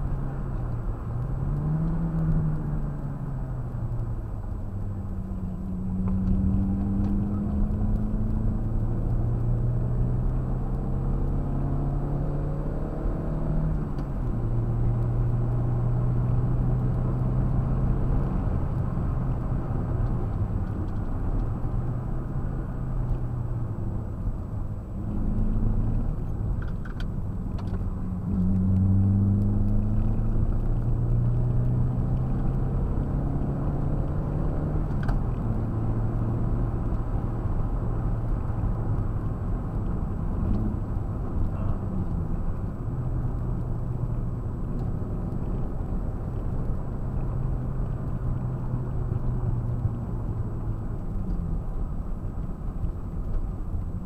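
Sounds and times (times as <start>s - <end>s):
car engine running hard: 0.0s - 54.0s
road and wind noise: 0.0s - 54.0s.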